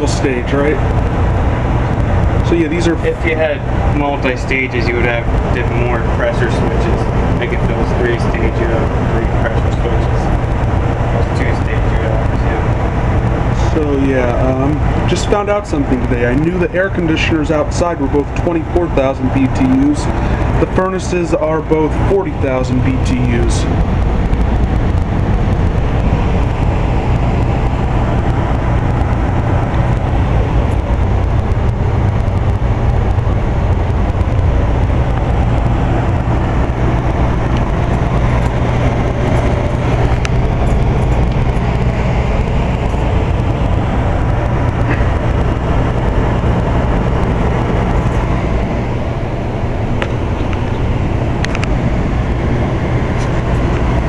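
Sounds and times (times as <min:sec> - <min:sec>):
furnace humming and blowing air: 0:00.0 - 0:54.0.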